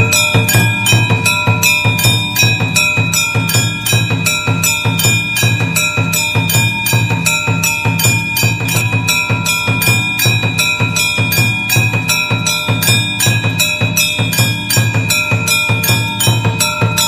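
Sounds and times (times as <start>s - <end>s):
bell tones ringing: 0.0s - 17.0s
music with quick beat: 0.0s - 17.0s.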